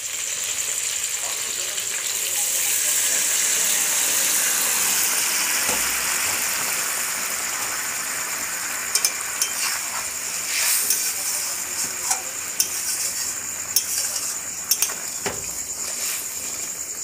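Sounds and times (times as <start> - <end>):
water sizzling in hot pan: 0.0 - 17.0.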